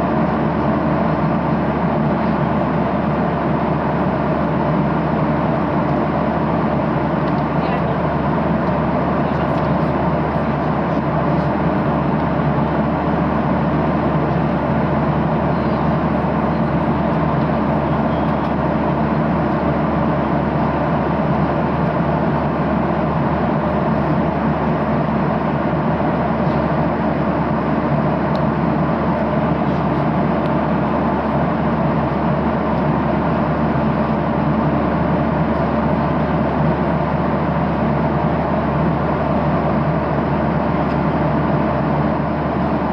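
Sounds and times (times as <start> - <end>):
jet engine drone: 0.0 - 42.9.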